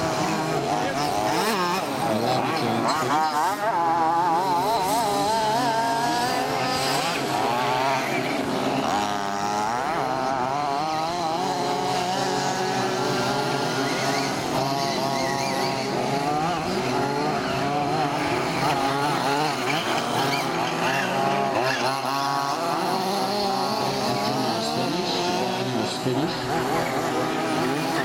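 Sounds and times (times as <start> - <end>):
small two-stroke engines revving: 0.0 - 28.0.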